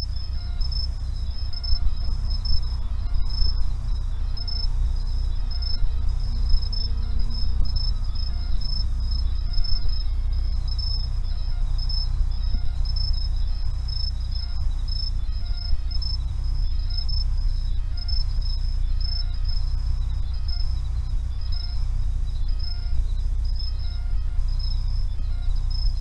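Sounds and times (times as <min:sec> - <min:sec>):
insect trilling: 0:00.0 - 0:26.0
low steady rumble: 0:00.0 - 0:26.0.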